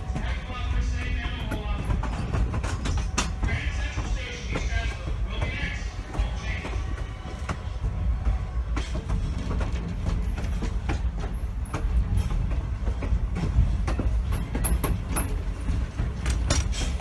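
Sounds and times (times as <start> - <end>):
low train rumble: 0.0 - 17.0
train wheels knocking over rail joints: 0.0 - 17.0.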